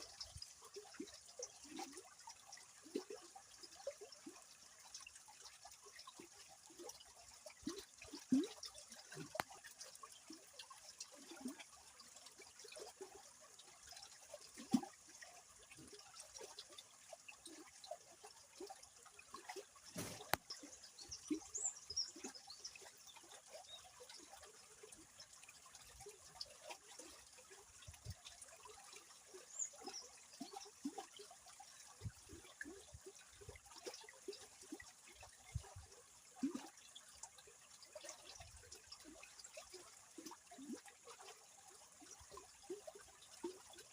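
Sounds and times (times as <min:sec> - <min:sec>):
river water trickling: 0:00.0 - 0:43.9.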